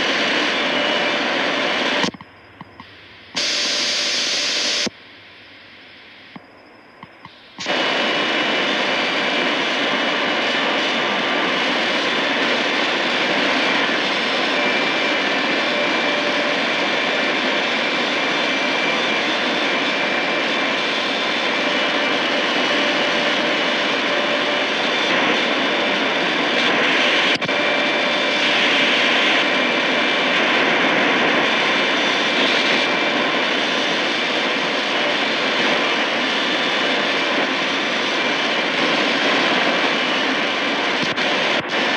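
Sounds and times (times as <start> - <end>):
shortwave radio static hiss: 0.0 - 41.9.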